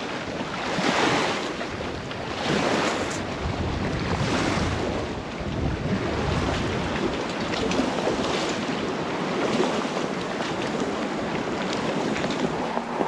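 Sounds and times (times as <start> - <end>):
lake waves lapping shore: 0.0 - 13.0.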